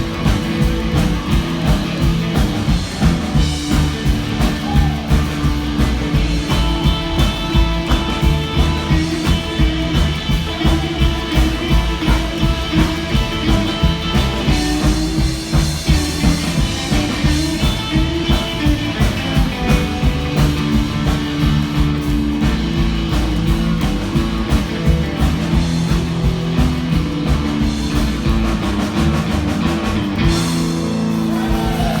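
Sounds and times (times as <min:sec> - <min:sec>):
rock and roll band playing: 0:00.0 - 0:32.0.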